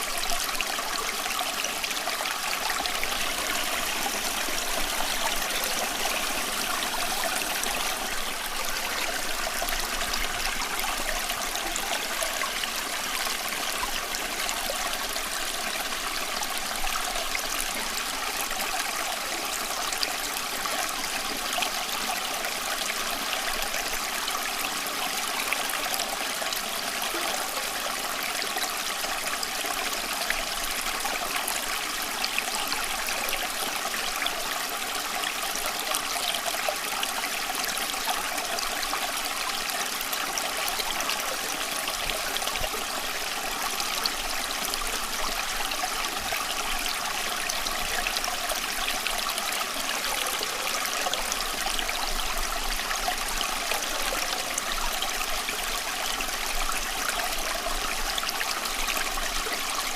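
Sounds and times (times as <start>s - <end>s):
stream flowing and trickling: 0.0s - 59.9s.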